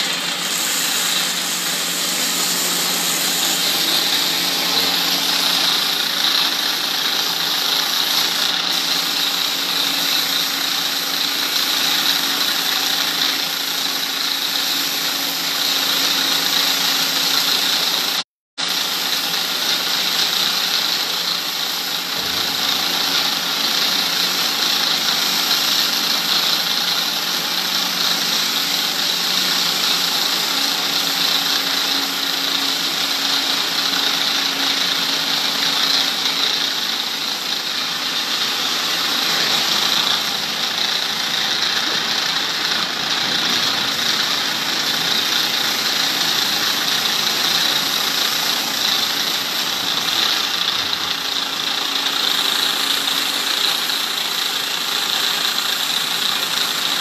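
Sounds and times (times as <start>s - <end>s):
hose jet spraying concrete: 0.0s - 57.0s
water pump motor running: 0.0s - 57.0s.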